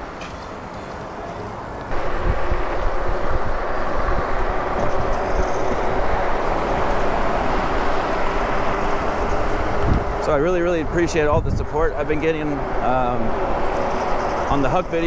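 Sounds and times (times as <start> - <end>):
tyre noise on road: 0.0 - 15.0
wind buffeting microphone: 1.9 - 15.0.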